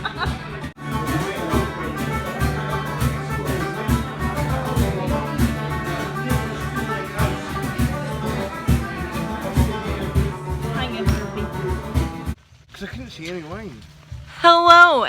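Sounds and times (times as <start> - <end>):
music with drums and held low note: 0.0 - 12.4.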